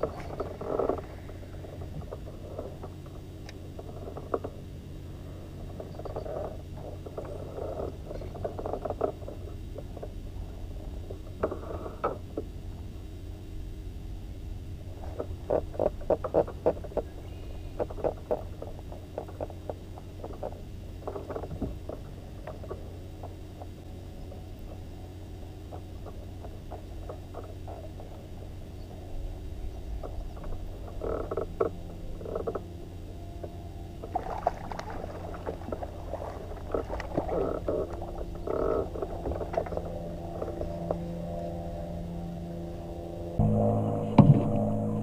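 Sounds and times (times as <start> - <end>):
low rumble: 0.0 - 45.0.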